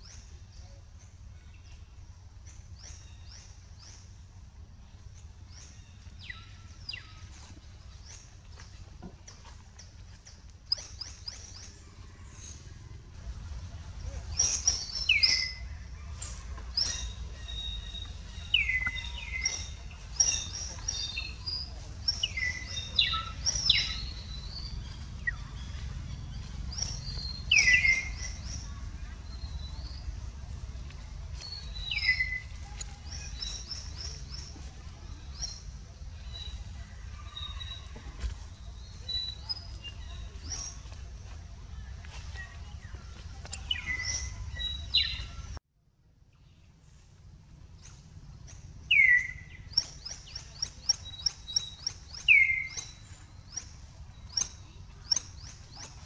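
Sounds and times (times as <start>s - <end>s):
birds chirping and trilling: 0.0s - 45.6s, 47.7s - 56.0s
low steady rumble: 0.0s - 56.0s.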